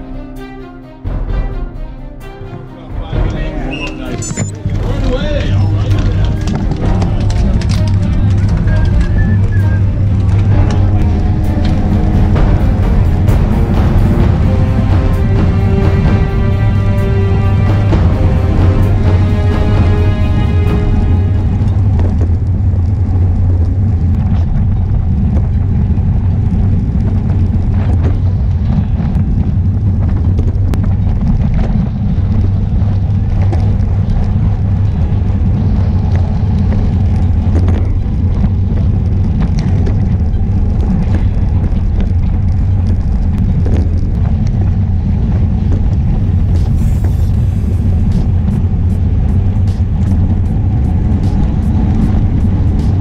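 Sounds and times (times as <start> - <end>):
road and tyre noise: 2.4 - 53.0
wind buffeting microphone: 3.0 - 53.0.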